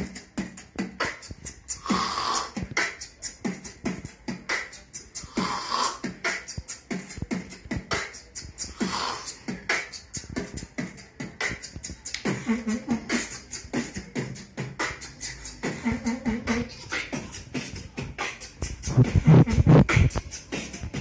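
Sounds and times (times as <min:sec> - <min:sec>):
vocal beatboxing: 0:00.0 - 0:21.0.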